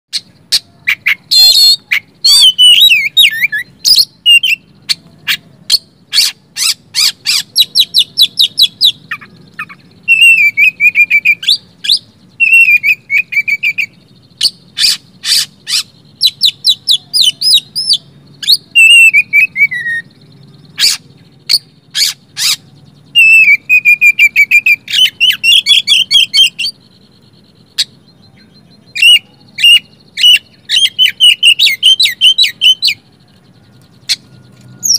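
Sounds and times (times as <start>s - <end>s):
magpie-robin singing: 0.1s - 34.9s.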